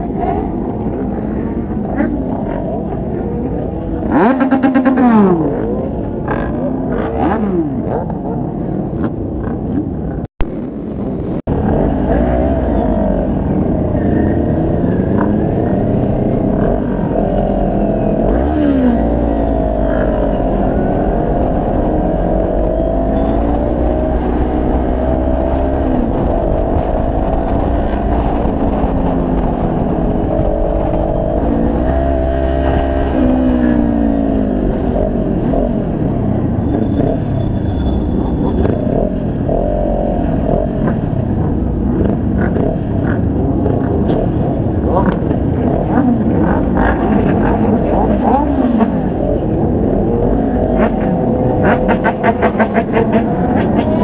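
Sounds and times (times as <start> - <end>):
motorcycle engine running while ridden: 0.0 - 54.0
motorcycle engines revving: 0.0 - 54.0.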